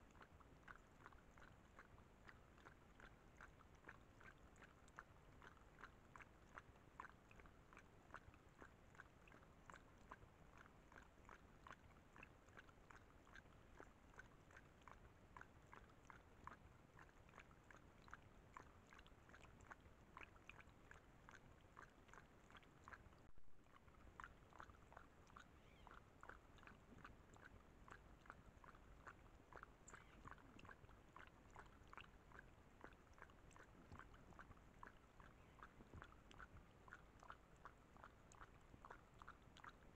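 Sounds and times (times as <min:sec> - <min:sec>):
animal lapping water: 0:00.0 - 0:39.9.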